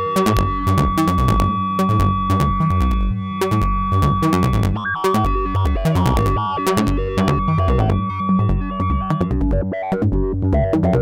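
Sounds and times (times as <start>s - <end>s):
low bass notes: 0.0s - 11.0s
synthesizer sequenced notes: 0.0s - 11.0s.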